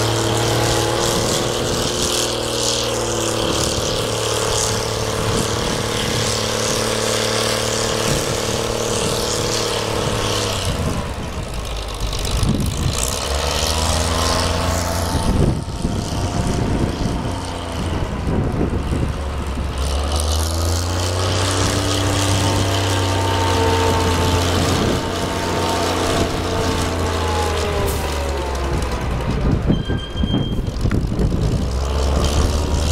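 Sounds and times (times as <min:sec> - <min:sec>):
engine revving: 0:00.0 - 0:32.9.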